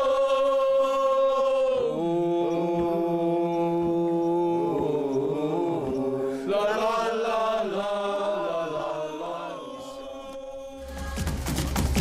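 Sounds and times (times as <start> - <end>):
man singing unaccompanied: 0.0 - 10.9.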